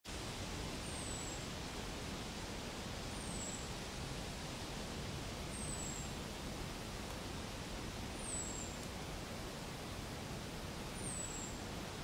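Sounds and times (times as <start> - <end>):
forest ambience hiss: 0.1 - 12.0.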